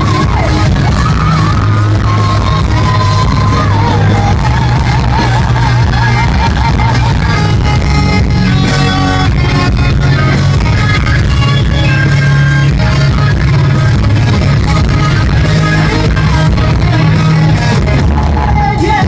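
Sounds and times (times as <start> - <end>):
loud rock song: 0.0 - 19.0.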